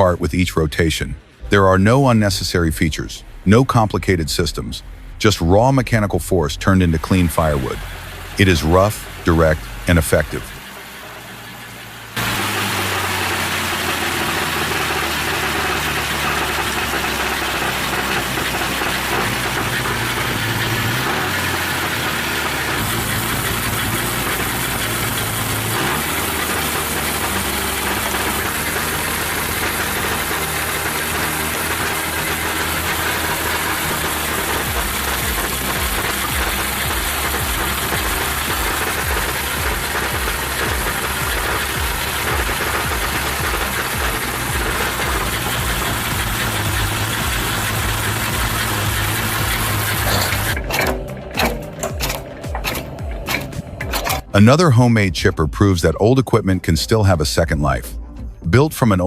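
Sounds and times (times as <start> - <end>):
machine noise: 0.0 - 55.2
engine humming: 0.0 - 59.0.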